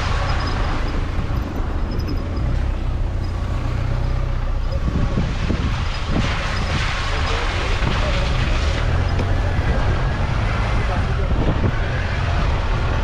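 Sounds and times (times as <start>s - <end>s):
suv engine low rumble: 0.0s - 13.0s.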